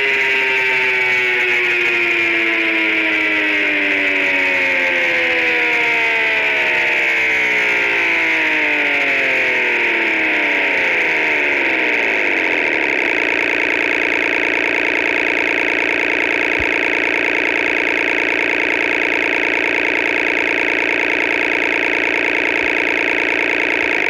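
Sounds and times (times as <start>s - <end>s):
synthesized engine idling: 0.0s - 24.0s.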